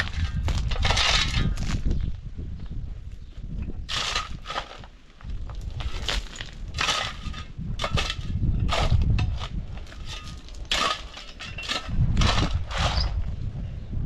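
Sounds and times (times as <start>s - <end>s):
stones grinding and clinking: 0.0s - 2.0s, 3.8s - 13.3s
tool scraping through stony ground: 0.0s - 2.1s, 3.7s - 13.4s.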